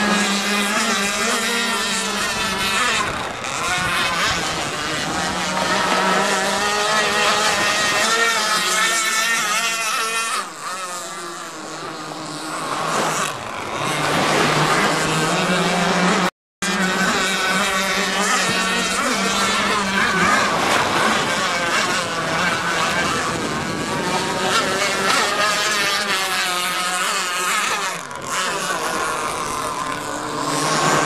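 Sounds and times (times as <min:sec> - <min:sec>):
two-stroke boat engines: 0:00.0 - 0:31.0.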